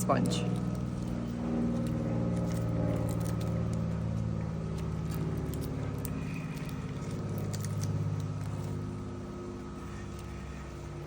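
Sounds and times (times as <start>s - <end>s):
low mechanical hum: 0.0s - 11.0s
faint clicks and crackles: 0.2s - 11.0s.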